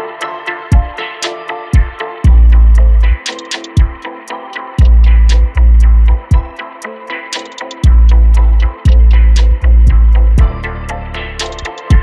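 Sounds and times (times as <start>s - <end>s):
background music with deep bass: 0.0s - 12.0s
sharp percussive ticks: 0.7s - 12.0s.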